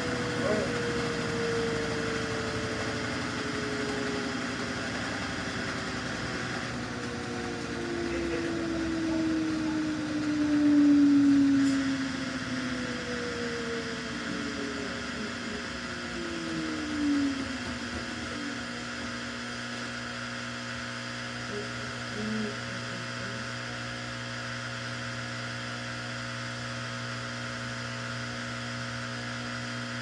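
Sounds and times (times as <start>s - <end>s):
washing machine hum: 0.0s - 30.0s
washing machine motor whine: 0.0s - 30.0s.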